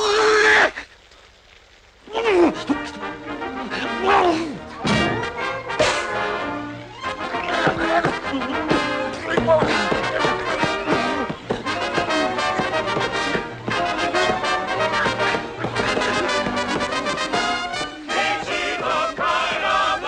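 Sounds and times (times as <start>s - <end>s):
orchestral cartoon music with brass: 2.4s - 20.0s.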